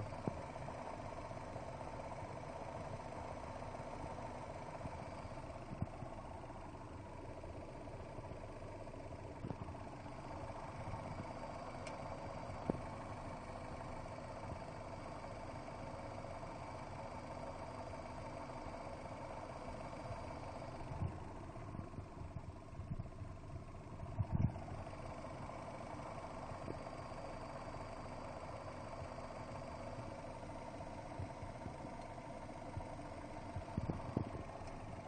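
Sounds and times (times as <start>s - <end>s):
petrol engine idling: 0.0s - 35.0s.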